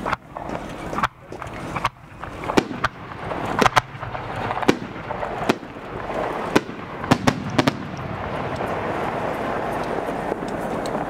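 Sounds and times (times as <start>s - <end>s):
fireworks bursting: 0.0s - 11.0s
steady rush of noise: 0.0s - 11.0s.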